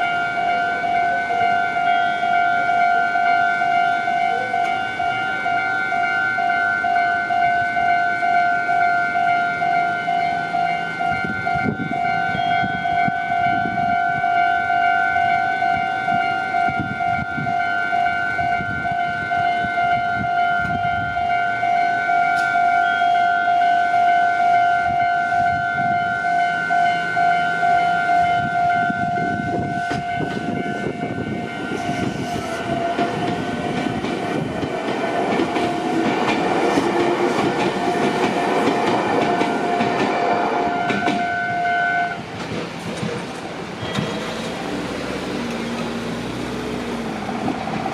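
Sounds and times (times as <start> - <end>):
train rumbling: 0.0 - 22.8, 23.8 - 47.9
level-crossing warning bell: 0.0 - 42.3, 43.7 - 47.9.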